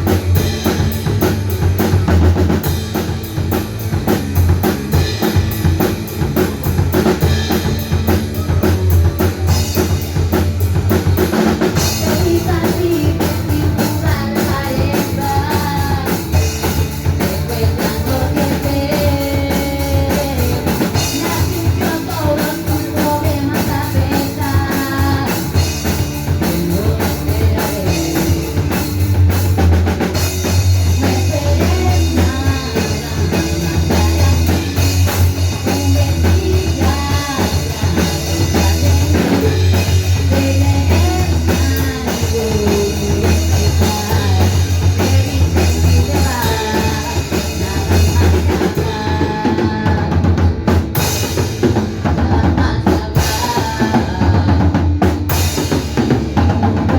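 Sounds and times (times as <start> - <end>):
drum kit: 0.0 - 56.9
rock band playing live: 0.0 - 56.9.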